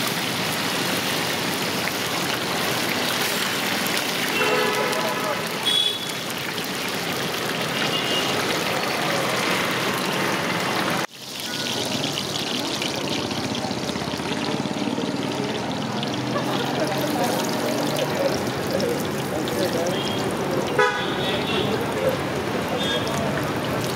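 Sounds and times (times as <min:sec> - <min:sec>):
food frying in hot oil: 0:00.0 - 0:23.9.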